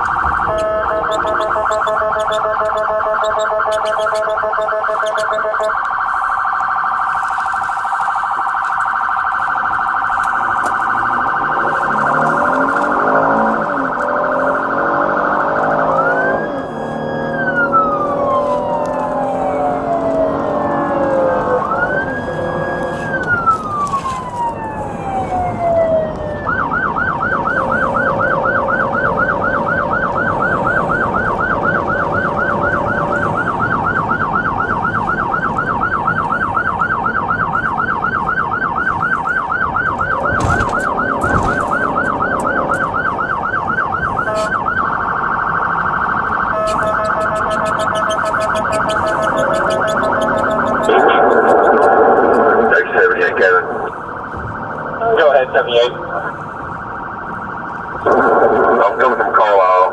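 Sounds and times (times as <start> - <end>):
police siren: 0.0 - 59.9.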